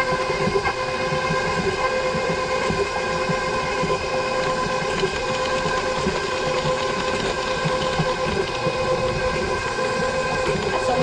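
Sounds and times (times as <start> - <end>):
electric mixer running: 0.0 - 11.0.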